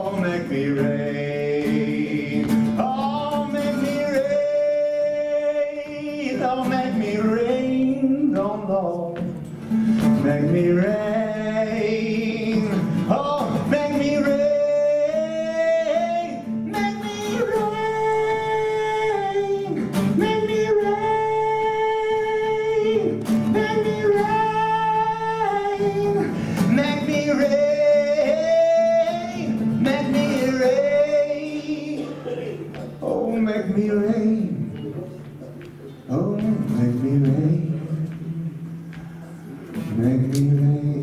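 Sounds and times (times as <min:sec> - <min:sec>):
man singing long notes: 0:00.0 - 0:09.4, 0:10.2 - 0:34.8
strummed acoustic guitar: 0:00.0 - 0:41.0.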